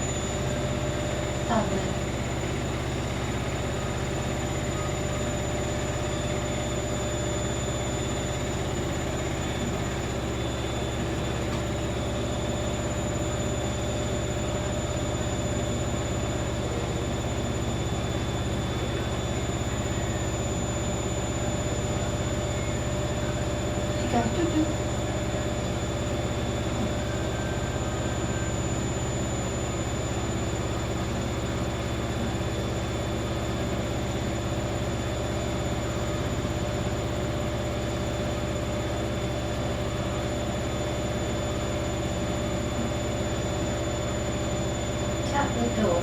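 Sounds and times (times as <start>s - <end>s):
machine hum with high whine: 0.0s - 46.0s.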